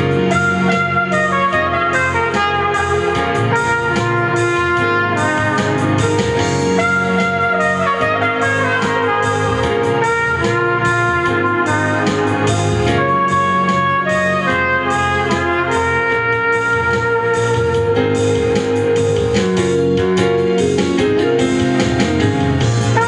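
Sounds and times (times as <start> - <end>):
trumpet playing a melody: 0.0 - 20.6, 22.7 - 23.0
keyboards and guitar backing track: 0.0 - 23.0.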